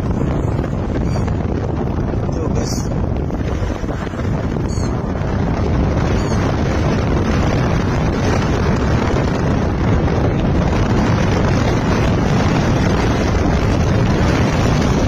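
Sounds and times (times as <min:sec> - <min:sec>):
road and vehicle noise: 0:00.0 - 0:15.0
wind buffeting microphone: 0:00.0 - 0:15.0.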